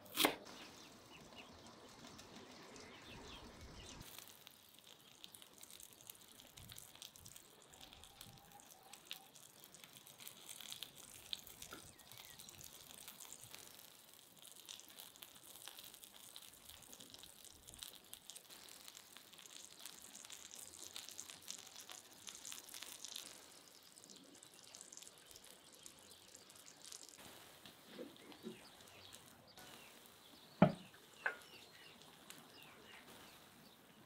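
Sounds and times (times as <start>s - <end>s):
eggs sizzling in a pan: 0.0s - 34.0s.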